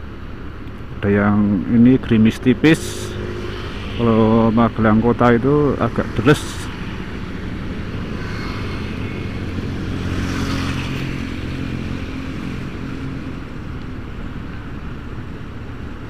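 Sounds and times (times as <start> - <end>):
wind and road noise: 0.0 - 16.0
motorcycle engine cruising: 1.0 - 16.0.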